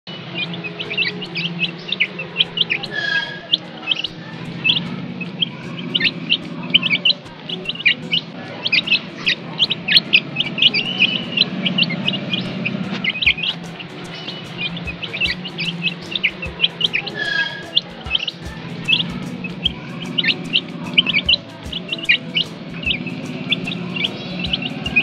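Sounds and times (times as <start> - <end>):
chicks peeping: 0.2 - 25.0.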